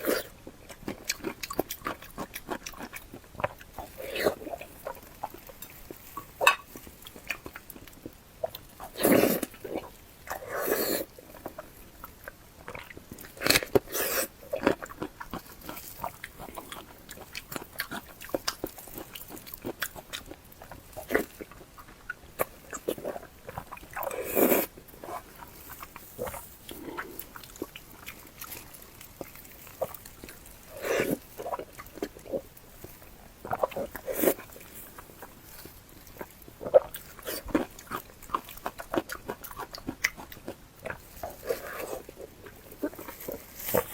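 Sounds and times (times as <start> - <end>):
wet chewing and lip-smacking: 0.0 - 43.9.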